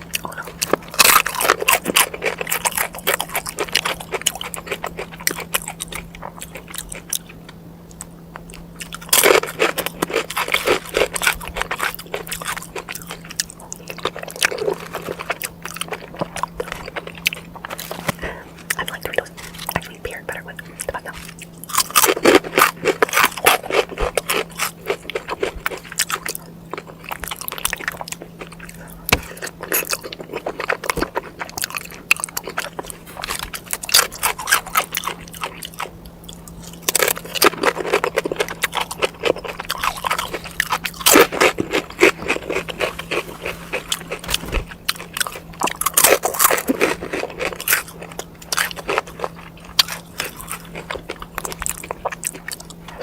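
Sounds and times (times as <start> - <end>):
chewing crisp food: 0.0 - 53.0
faint steady hum: 0.0 - 53.0.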